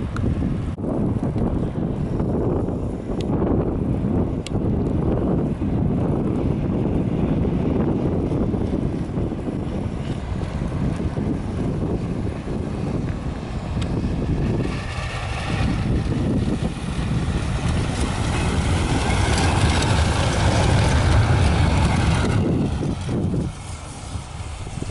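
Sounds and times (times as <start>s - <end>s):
tram passing on rails: 0.0s - 24.9s.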